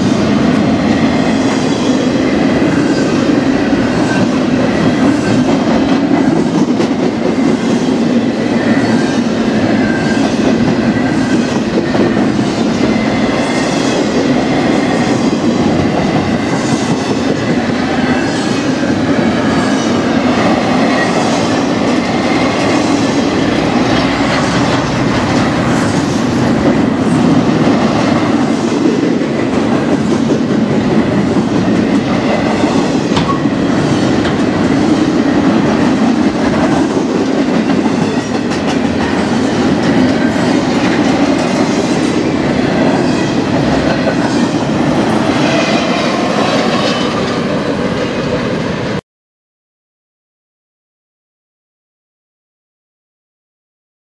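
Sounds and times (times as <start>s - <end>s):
freight train wheels rolling: 0.0s - 49.0s.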